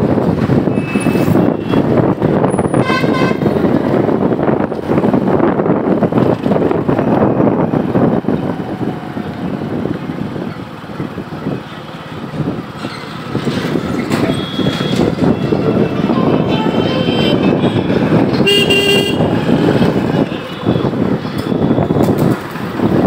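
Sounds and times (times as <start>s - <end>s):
road noise: 0.0s - 23.0s
wind buffeting microphone: 0.0s - 23.0s.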